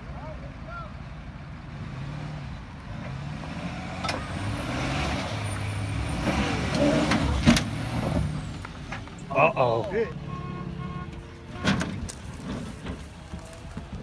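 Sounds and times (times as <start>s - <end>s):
truck engine under load: 0.0s - 14.0s.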